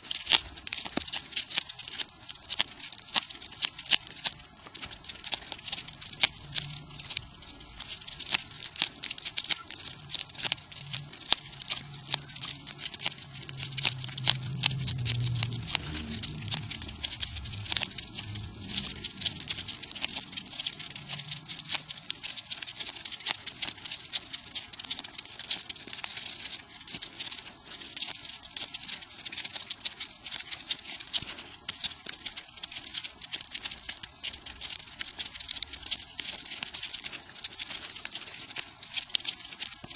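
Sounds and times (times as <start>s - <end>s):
paper crinkling and crackling: 0.0s - 39.9s.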